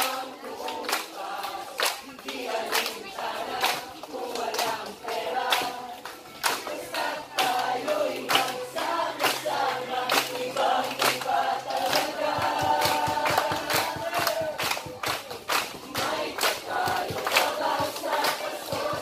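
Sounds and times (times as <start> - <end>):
group singing: 0.0 - 19.0
hands clapping in time: 0.0 - 19.0.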